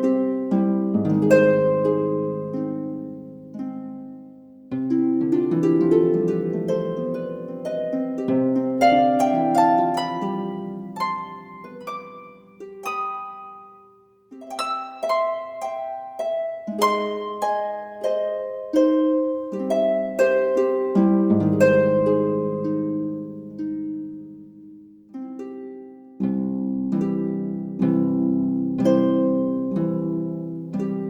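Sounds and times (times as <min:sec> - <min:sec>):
plucked harp-like melody: 0:00.0 - 0:31.0.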